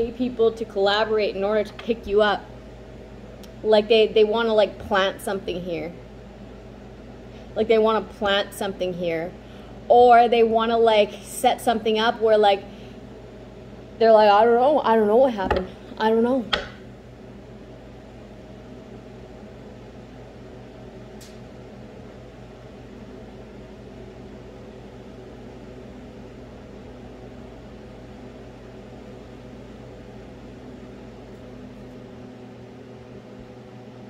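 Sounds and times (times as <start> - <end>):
appliance fan humming: 0.0 - 34.0.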